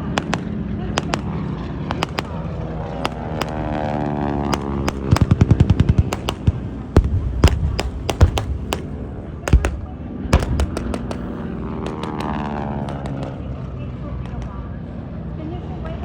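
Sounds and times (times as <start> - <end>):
pyrotechnic bangs and pops: 0.0 - 13.5.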